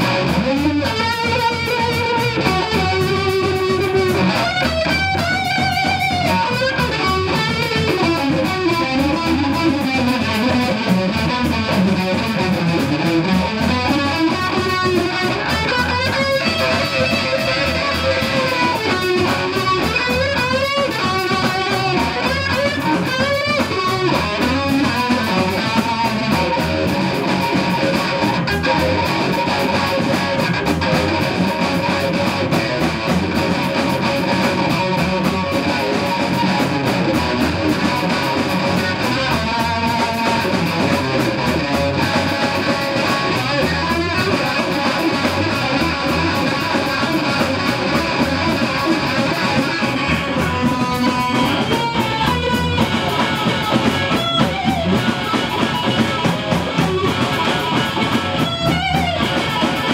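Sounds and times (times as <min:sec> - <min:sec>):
bass guitar: 0:00.0 - 0:59.9
drum kit with cymbal strokes: 0:00.0 - 0:59.9
electric guitar bending notes: 0:00.0 - 0:59.9.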